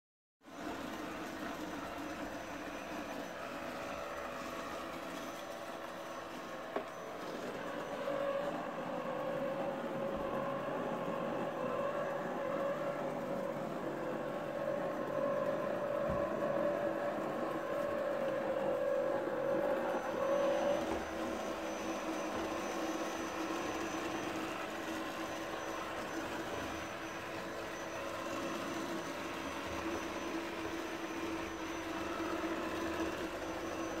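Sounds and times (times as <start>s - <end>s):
robot vacuum motor whirring: 0.5s - 34.0s.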